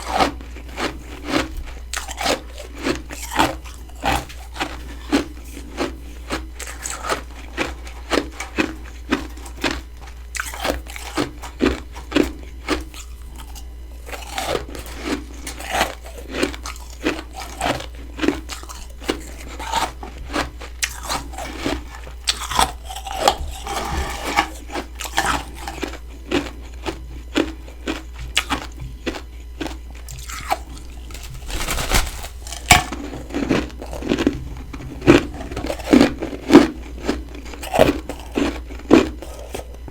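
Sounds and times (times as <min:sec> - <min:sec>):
chewing crunchy frost: 0:00.0 - 0:39.9.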